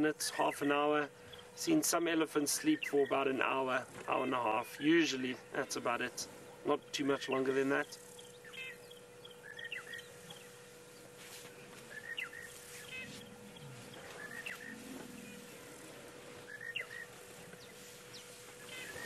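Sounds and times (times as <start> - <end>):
birds calling: 0.0 - 19.0
faint steady hum: 0.0 - 19.0.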